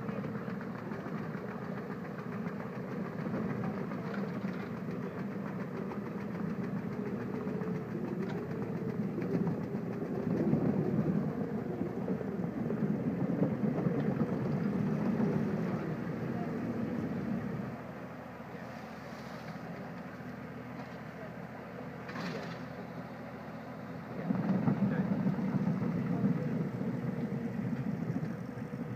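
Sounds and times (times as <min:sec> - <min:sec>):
vehicle engine running: 0:00.0 - 0:28.9.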